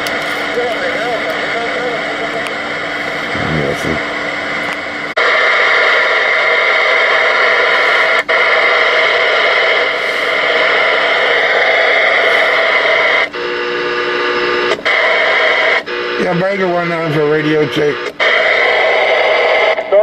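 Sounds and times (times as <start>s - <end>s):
radio static: 0.0s - 20.0s.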